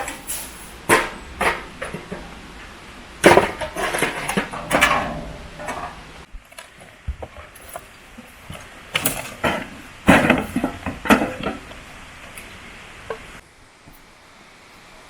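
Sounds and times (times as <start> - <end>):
pots and utensils clattering: 0.0 - 13.4.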